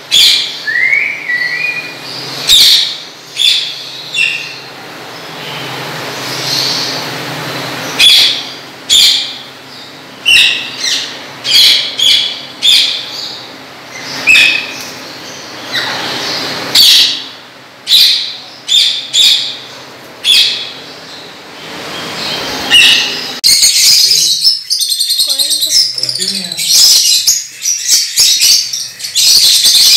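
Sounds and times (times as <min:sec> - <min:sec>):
parakeets calling: 0:00.0 - 0:29.9.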